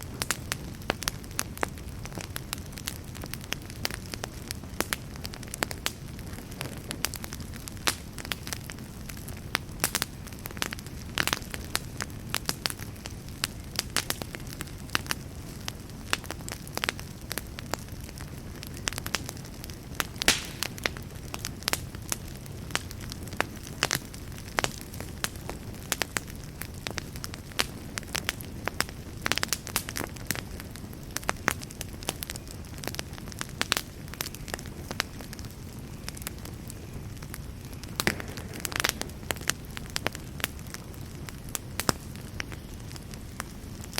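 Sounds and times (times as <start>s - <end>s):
flames rushing: 0.0s - 43.9s
wood crackling and popping: 0.0s - 43.9s.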